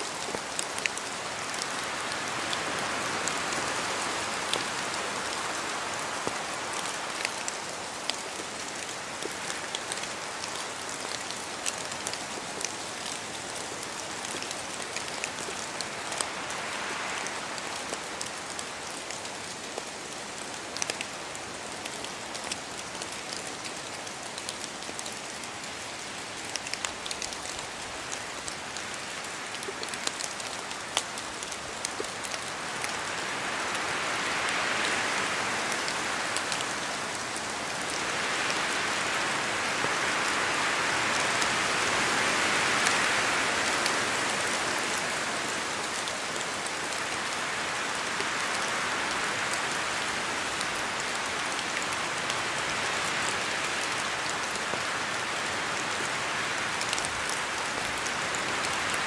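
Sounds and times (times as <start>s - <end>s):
steady rain in a forest: 0.0s - 59.0s.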